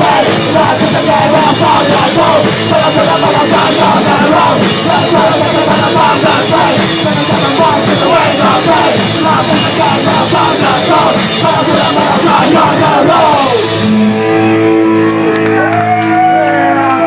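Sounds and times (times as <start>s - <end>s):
drums: 0.0s - 17.0s
metal band playing: 0.0s - 17.0s.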